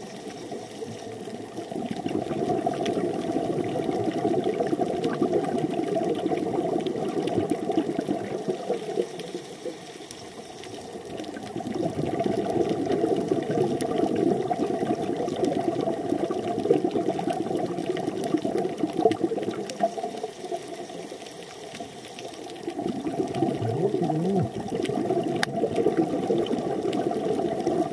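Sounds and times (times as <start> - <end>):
underwater regulator bubbling: 1.5 - 9.4, 11.1 - 20.8, 22.5 - 27.9.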